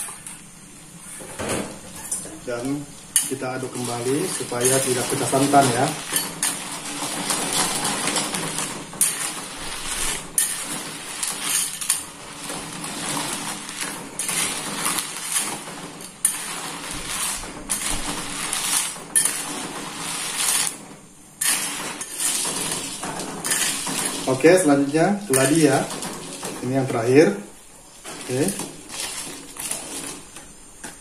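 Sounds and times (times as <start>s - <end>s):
spoon scraping and clinking pot: 3.1s - 20.8s, 21.4s - 26.8s, 28.1s - 31.0s.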